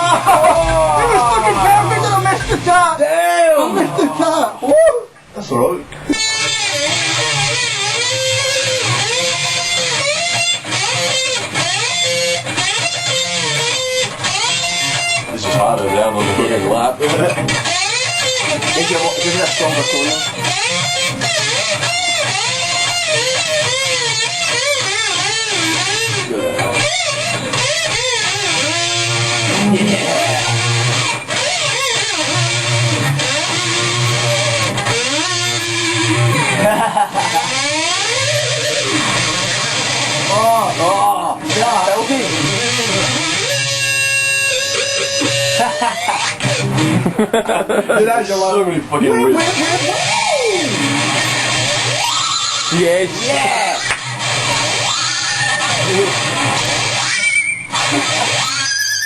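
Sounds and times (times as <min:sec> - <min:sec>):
electric guitar metal riff: 0:00.0 - 0:59.0.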